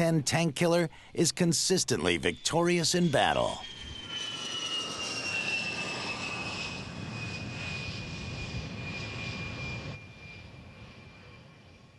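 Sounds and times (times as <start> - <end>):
jet engine whine: 0.7 - 11.9.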